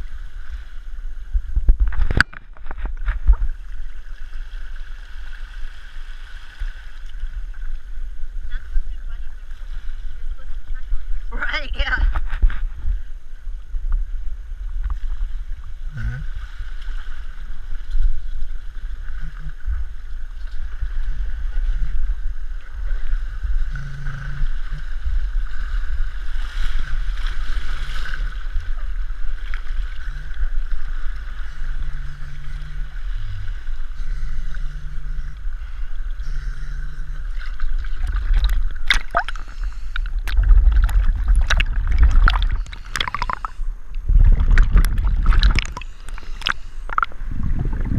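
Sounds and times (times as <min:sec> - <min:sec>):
muffled water sloshing: 0:00.0 - 0:47.9
water splashes: 0:00.0 - 0:47.9.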